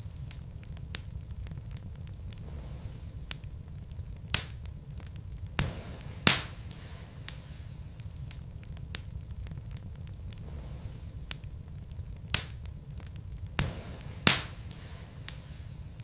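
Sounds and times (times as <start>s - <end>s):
burning logs crackling and popping: 0.0s - 16.0s
wood fire burning: 0.0s - 16.0s.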